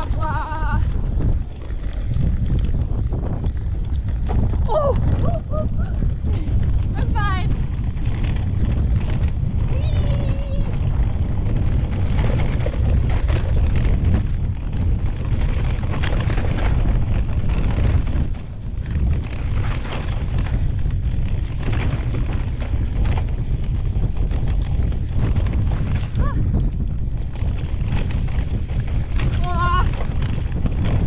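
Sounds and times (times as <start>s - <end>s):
bike rattling and knocking: 0.0s - 31.0s
wind buffeting microphone: 0.0s - 31.0s.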